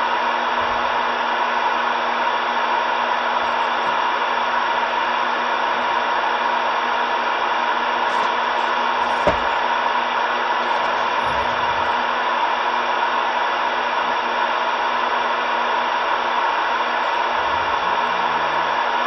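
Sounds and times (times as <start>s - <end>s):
loud radio static hiss: 0.0s - 19.0s.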